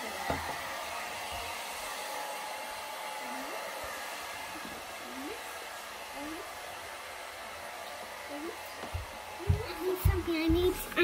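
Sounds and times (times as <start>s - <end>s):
hair dryer running: 0.0s - 11.0s.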